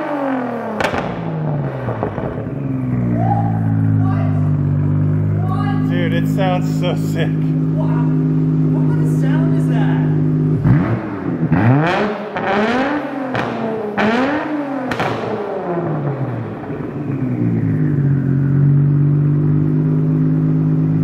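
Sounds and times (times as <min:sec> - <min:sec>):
car engine revving and idling: 0:00.0 - 0:21.0
exhaust cracks: 0:00.0 - 0:21.0.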